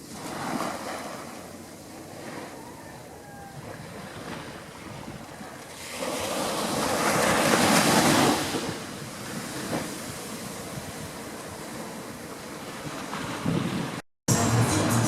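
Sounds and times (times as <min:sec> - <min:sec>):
ocean wave washing in: 0:00.0 - 0:14.0.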